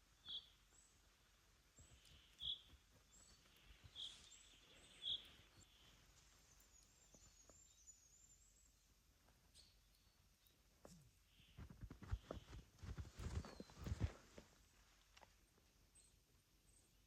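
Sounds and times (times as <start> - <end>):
small bird chirping: 0.1 - 14.2.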